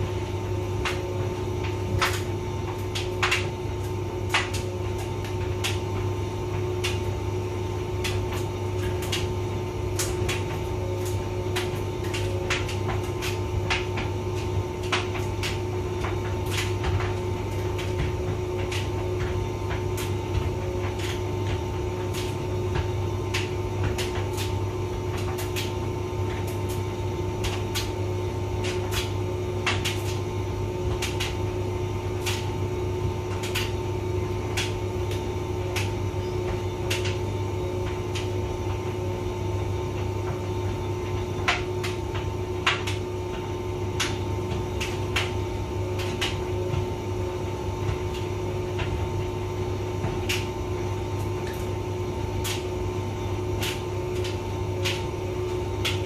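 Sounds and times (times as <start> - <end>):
tumble dryer humming: 0.0 - 56.0.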